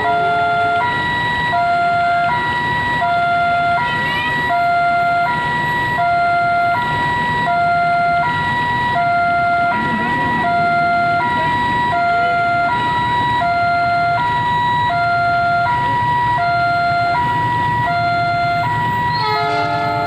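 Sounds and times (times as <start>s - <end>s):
level-crossing alarm ding-dong: 0.0s - 20.0s.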